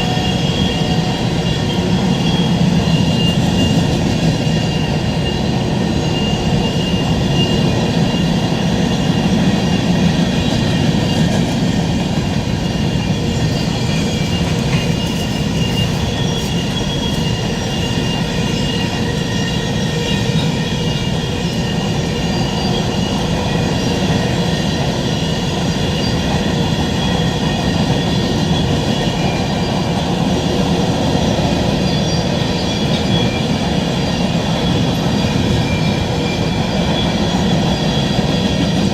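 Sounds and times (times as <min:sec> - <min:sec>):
freight cars rumbling on rails: 0:00.0 - 0:38.9
high wheel squeal: 0:00.0 - 0:38.9.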